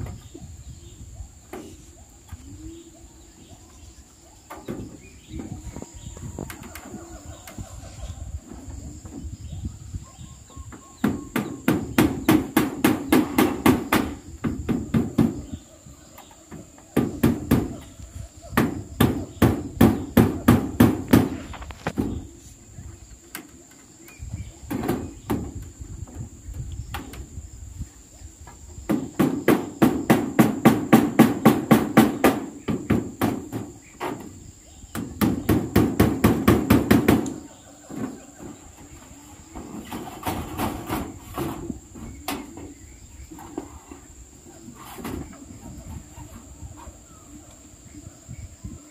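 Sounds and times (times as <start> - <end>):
high insect drone: 0.0 - 48.9.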